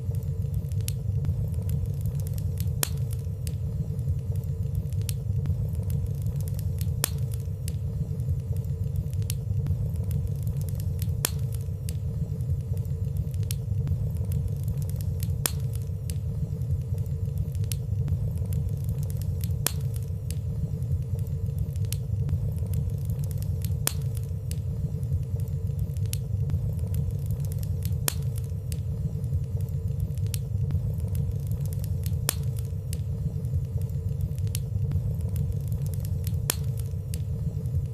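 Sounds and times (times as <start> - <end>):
fire burning in a fireplace: 0.0 - 37.9.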